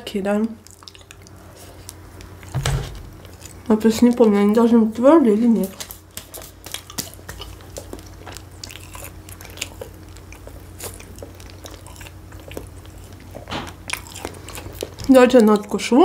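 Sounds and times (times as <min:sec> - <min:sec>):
person chewing food: 0:00.4 - 0:04.5, 0:05.6 - 0:16.0.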